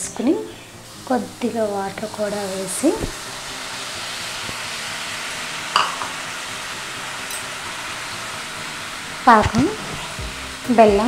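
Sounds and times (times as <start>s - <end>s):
syrup sizzling and bubbling in pan: 0.7s - 11.0s.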